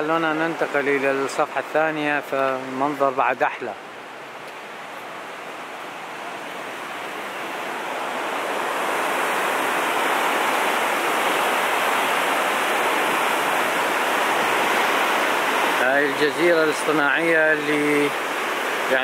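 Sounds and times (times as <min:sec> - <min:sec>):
rushing river water: 0:00.0 - 0:19.0.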